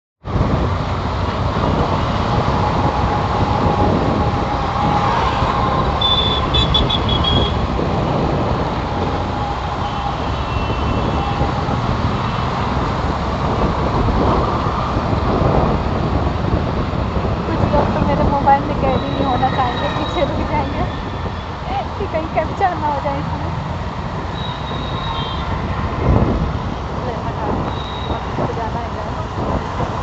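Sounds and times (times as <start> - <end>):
rushing outdoor noise: 0.2 - 30.0.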